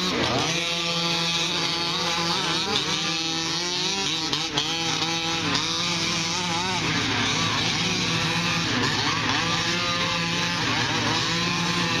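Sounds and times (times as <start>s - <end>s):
small two-stroke engines running: 0.0s - 12.0s.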